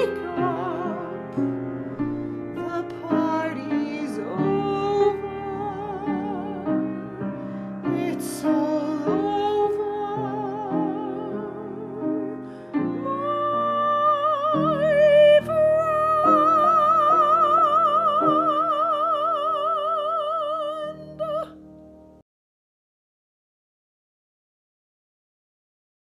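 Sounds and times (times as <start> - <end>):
operatic soprano singing: 0.0 - 21.6.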